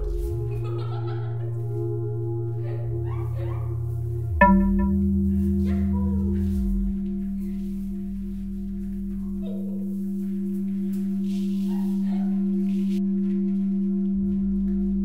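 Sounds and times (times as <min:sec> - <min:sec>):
low hum: 0:00.0 - 0:15.0
ringing musical drone: 0:00.0 - 0:15.0.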